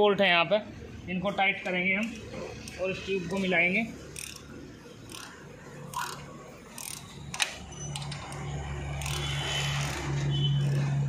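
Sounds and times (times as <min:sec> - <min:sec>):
spanner clicking on bolts: 0:01.6 - 0:11.0.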